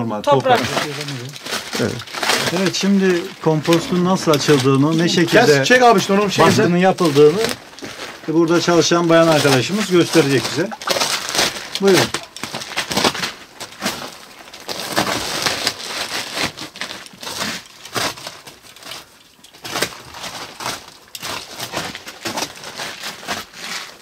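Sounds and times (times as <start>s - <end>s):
plastic sheeting crinkling and tearing: 0.0s - 24.0s.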